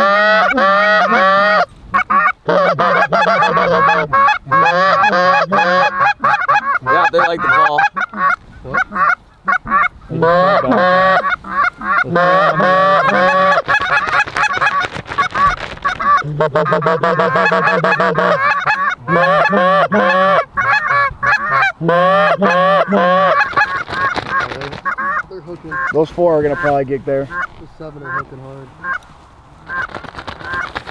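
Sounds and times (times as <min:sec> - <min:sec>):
goose calls honking and clucking: 0:00.0 - 0:30.9.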